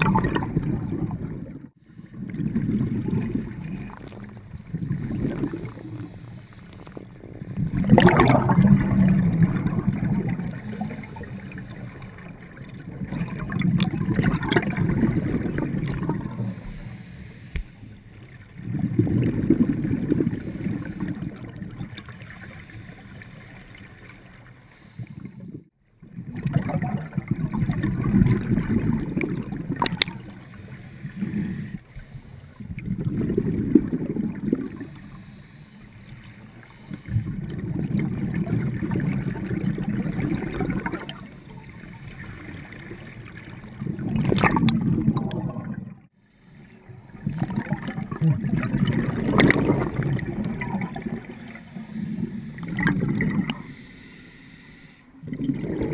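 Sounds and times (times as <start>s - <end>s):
underwater exhaled bubbles: 0.0s - 55.9s.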